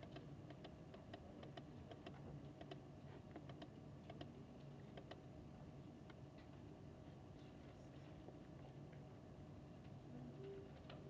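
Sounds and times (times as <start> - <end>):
air-conditioning hum: 0.0 - 11.0.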